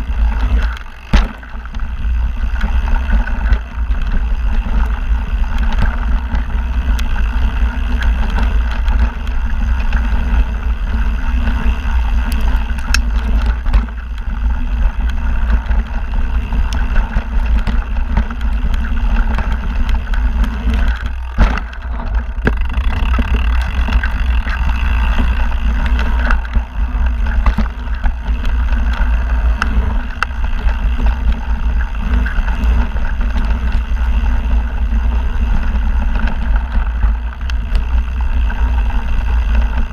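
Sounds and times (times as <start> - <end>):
bike rattling over bumps: 0.0 - 39.9
bike tyres rolling on dirt: 0.0 - 39.9.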